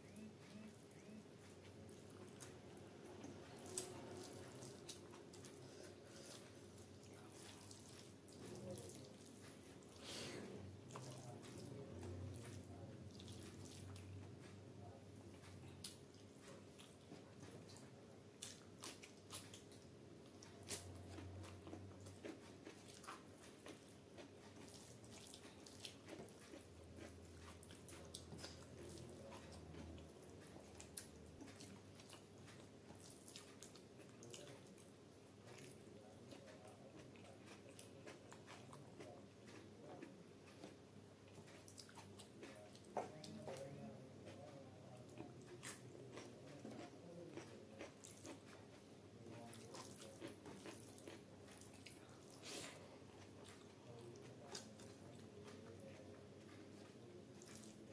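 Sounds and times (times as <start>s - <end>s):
wet chewing: 0.1s - 57.9s
fingers squishing food: 10.8s - 57.9s.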